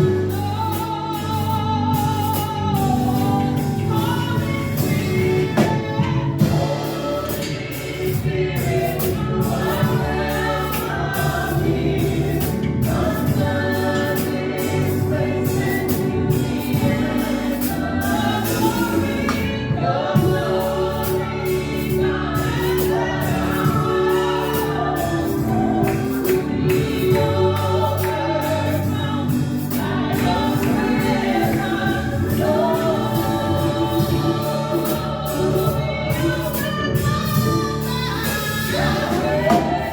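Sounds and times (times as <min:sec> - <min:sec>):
band accompaniment: 0:00.0 - 0:39.9
drum and cymbal hits: 0:00.0 - 0:39.9
group singing gospel song: 0:00.0 - 0:39.9.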